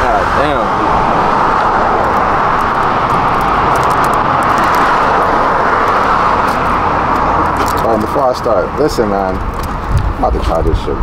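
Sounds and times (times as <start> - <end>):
vehicle noise rushing: 0.0 - 11.0.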